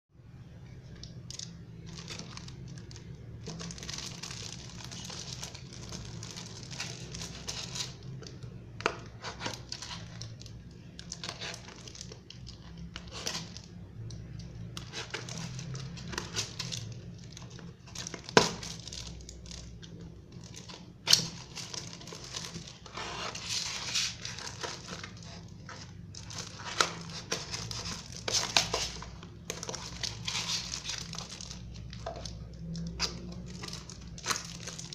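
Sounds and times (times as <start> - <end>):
plastic wrapping crinkling: 0.6 - 34.9.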